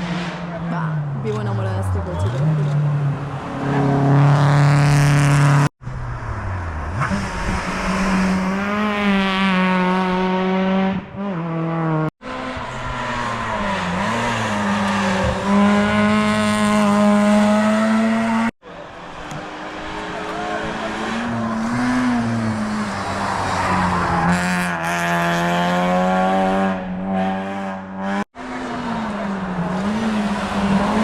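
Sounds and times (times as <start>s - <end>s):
rally cars revving past: 2.2s - 31.0s.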